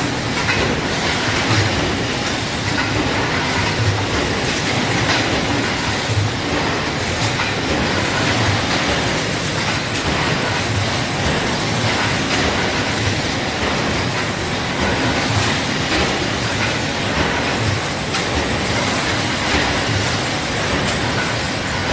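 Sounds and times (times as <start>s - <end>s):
machine mechanical clatter: 0.0s - 21.9s.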